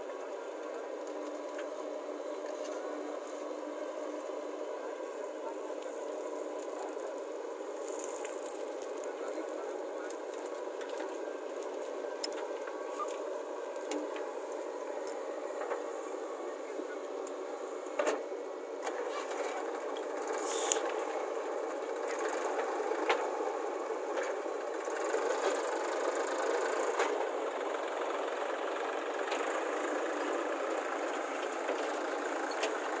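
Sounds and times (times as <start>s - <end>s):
diesel engines running: 0.0s - 33.0s.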